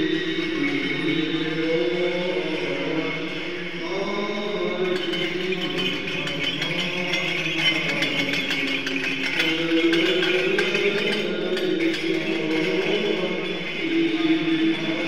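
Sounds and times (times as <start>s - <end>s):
men singing chant: 0.0s - 15.0s.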